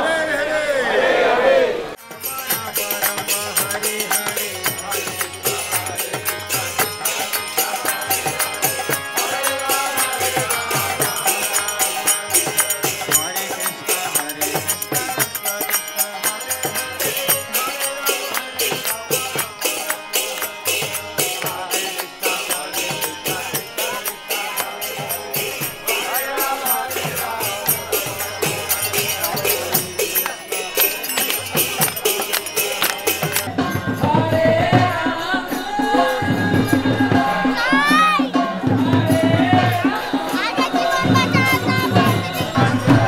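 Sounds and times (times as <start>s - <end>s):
group chanting: 0.0s - 43.0s
harmonium: 1.9s - 43.0s
hand cymbals clashing: 2.0s - 38.3s.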